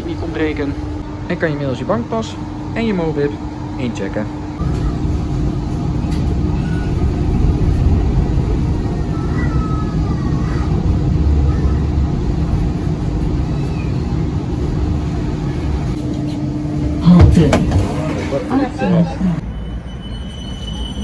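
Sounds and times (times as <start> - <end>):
constant hum: 0.0 - 19.4
tram low rumble: 0.0 - 21.0.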